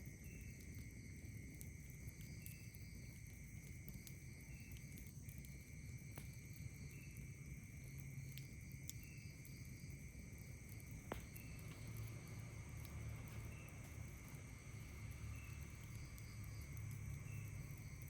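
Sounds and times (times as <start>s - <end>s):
chorus of night insects: 0.0s - 18.0s
insect chirping: 0.0s - 18.0s
campfire crackling: 0.1s - 18.0s.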